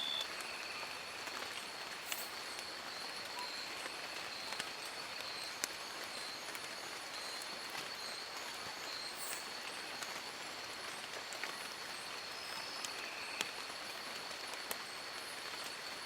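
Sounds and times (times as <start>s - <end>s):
rain on forest foliage: 0.0s - 16.0s.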